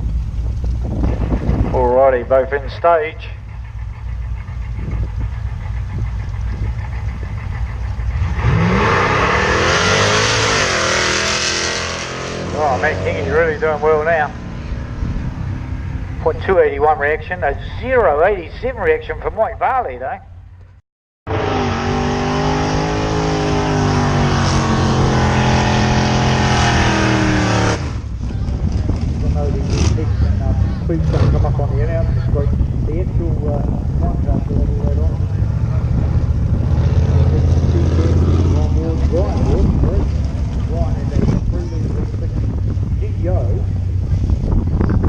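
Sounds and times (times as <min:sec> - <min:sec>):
drag racing cars accelerating: 0:00.7 - 0:19.9, 0:21.3 - 0:45.0.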